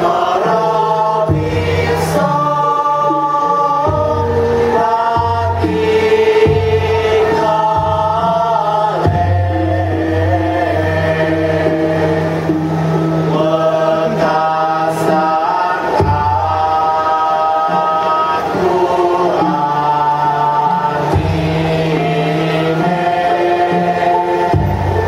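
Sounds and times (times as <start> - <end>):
low sustained tones: 0.0 - 25.0
vocal ensemble singing in chorus: 0.0 - 25.0.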